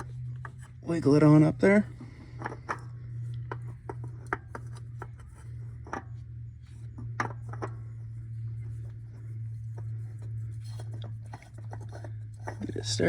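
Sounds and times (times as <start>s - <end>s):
oil filter clicks and scrapes: 0.0s - 13.0s
steady low hum: 0.0s - 13.0s.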